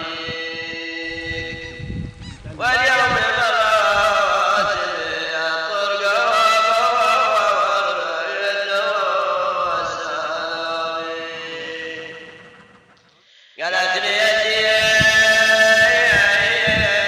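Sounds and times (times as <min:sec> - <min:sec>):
person singing a folk chant: 0:00.0 - 0:12.7, 0:13.4 - 0:17.0.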